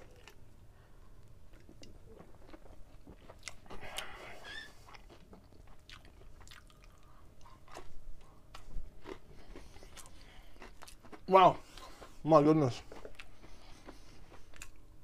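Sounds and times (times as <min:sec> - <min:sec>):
person chewing crispy pizza: 0:00.0 - 0:00.4, 0:01.1 - 0:15.0.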